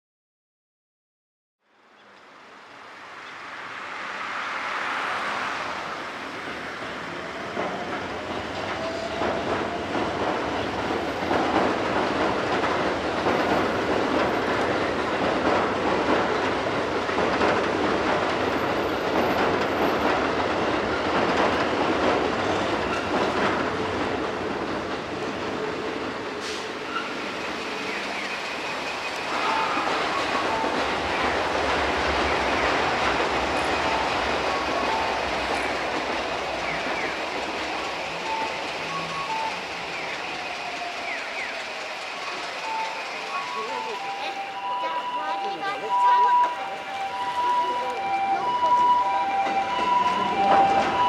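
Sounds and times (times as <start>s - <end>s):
train wheels clacking on rail joints: 6.5s - 51.0s.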